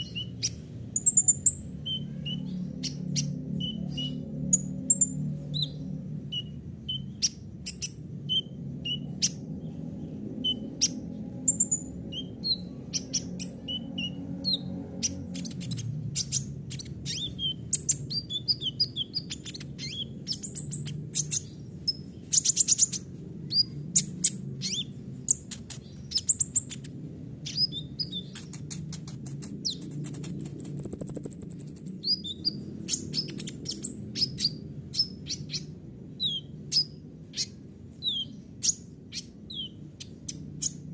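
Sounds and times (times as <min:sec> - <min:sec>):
bird singing chirps and trills: 0:00.0 - 0:40.9
steady low hum: 0:00.0 - 0:40.9.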